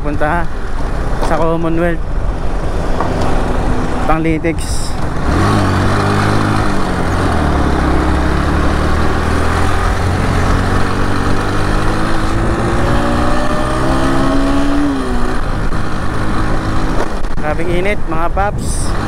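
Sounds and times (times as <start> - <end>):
road noise: 0.0 - 19.0
wind noise: 0.0 - 19.0
motorcycle engine: 0.6 - 18.2.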